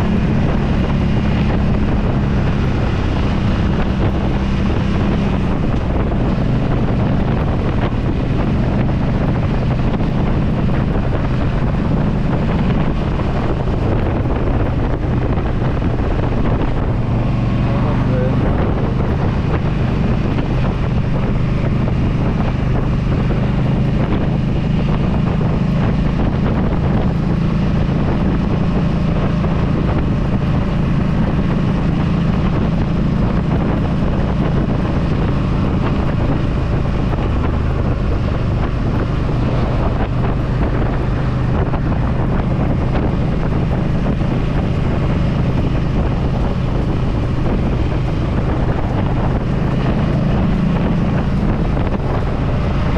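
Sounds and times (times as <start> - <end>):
motorcycle engine running: 0.0 - 52.9
wind buffeting microphone: 0.0 - 52.9.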